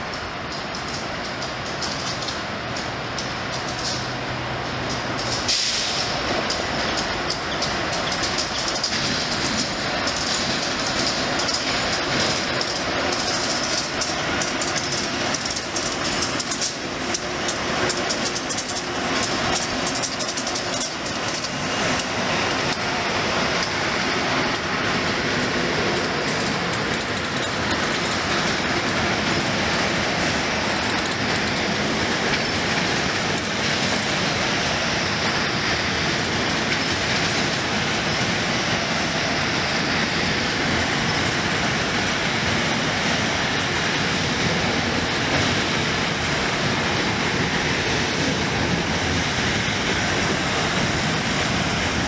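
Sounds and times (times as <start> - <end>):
train wheels rumbling on rail: 0.0 - 52.0
wheels clicking over rail joints: 0.0 - 52.0.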